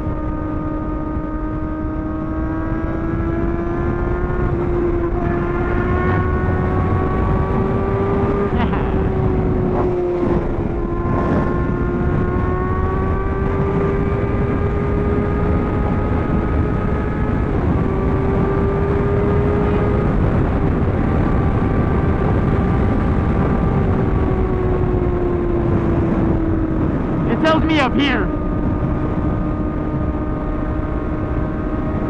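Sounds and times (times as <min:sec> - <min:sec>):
heavy wind noise: 0:00.0 - 0:32.0
motorcycle engine cruising: 0:00.0 - 0:32.0.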